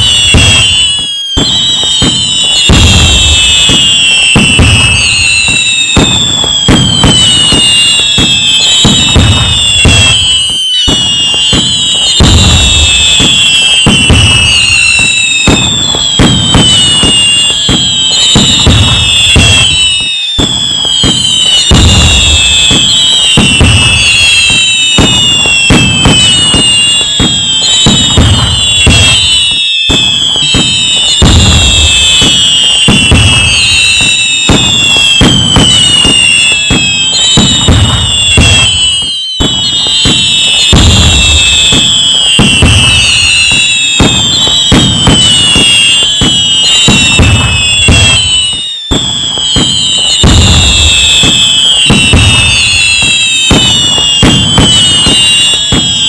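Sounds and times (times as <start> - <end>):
firework booming bangs: 0.0 - 56.0
firework crackling: 0.0 - 56.0
firework whistles falling in pitch: 0.0 - 56.0.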